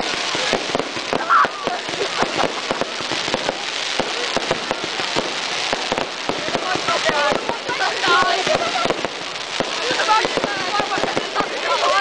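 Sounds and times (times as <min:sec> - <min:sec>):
fireworks bangs and cracks: 0:00.0 - 0:12.0
fireworks crackling hiss: 0:00.0 - 0:12.0.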